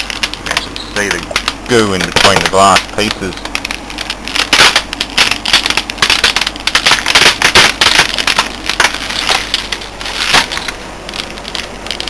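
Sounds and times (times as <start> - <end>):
cracked glass crunching: 0.0 - 12.0.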